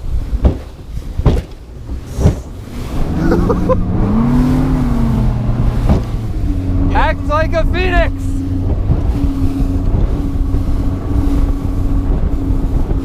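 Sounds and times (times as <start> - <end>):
water and wind rumble: 0.0 - 13.0
hull slamming onto waves: 0.1 - 13.0
outboard motor running: 1.6 - 13.0.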